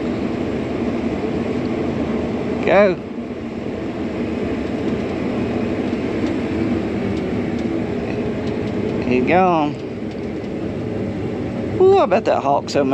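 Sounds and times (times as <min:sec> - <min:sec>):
combine harvester running: 0:00.0 - 0:12.9.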